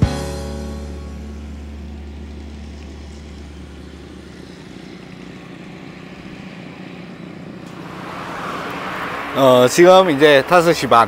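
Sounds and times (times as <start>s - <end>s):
car road and engine noise: 0.0s - 11.0s
strong low hum: 0.4s - 10.2s.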